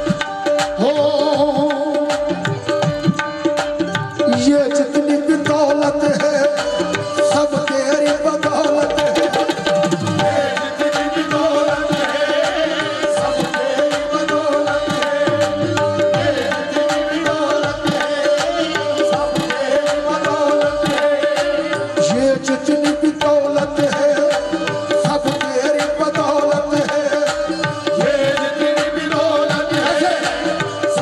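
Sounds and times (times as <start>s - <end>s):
tabla playing fast rhythm: 0.0s - 31.0s.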